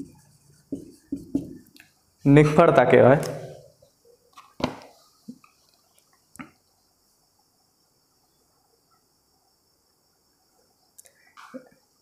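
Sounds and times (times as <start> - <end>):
faint high-pitched hiss: 0.0 - 12.0.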